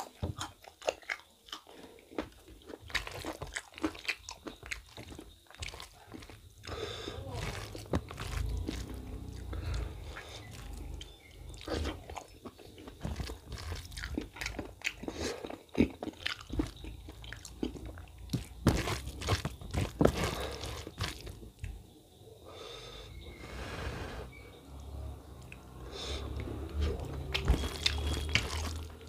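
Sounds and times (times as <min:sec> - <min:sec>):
chewing and crunching food: 0:00.0 - 0:21.9, 0:24.3 - 0:29.0.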